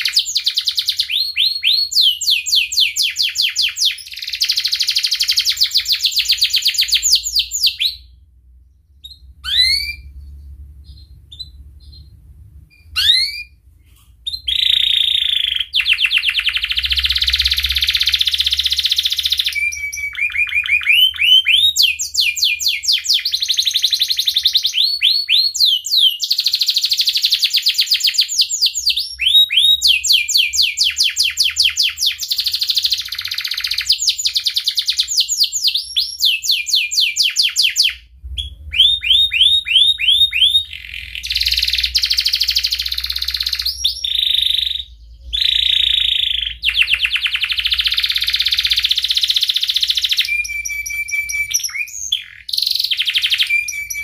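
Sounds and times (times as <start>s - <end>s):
canary singing trills: 0.0s - 13.6s, 14.2s - 54.0s.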